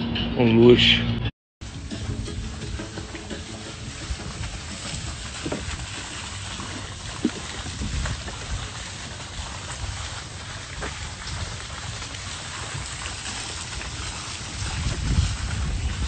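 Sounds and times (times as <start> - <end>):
wind rumble on microphone: 1.6 - 16.0.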